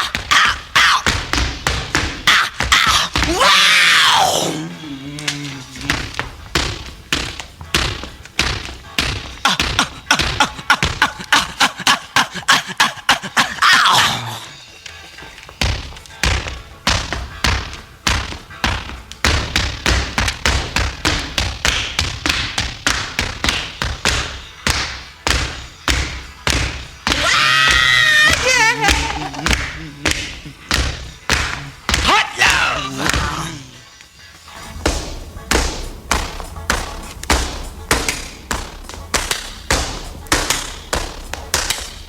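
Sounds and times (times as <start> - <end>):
percussive thuds: 0.0 - 3.6, 5.8 - 11.5, 15.5 - 33.5, 34.6 - 42.0.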